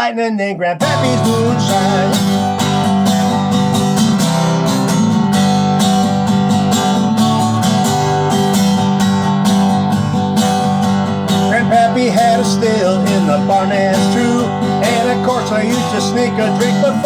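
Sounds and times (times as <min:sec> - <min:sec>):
country music: 0:00.8 - 0:17.0
strummed acoustic guitar: 0:00.8 - 0:17.0.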